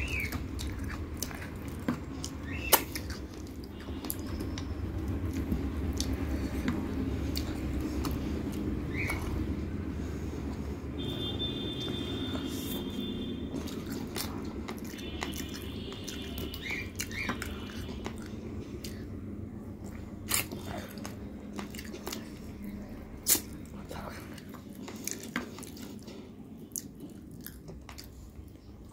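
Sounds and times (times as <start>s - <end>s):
chewing: 0.0s - 9.6s, 13.5s - 19.2s, 19.8s - 28.9s.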